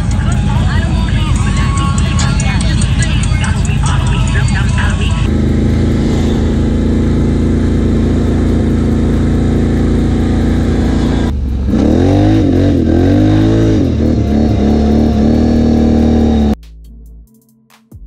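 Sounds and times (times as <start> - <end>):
atv engine revving: 0.0 - 16.6.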